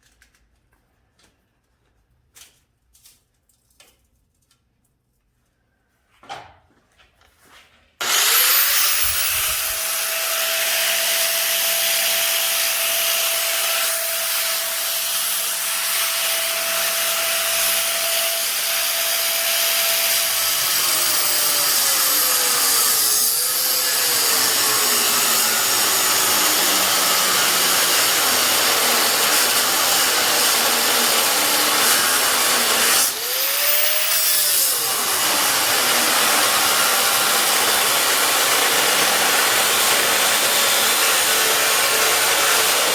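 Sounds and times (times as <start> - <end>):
angle grinder grinding metal: 8.0 - 42.9.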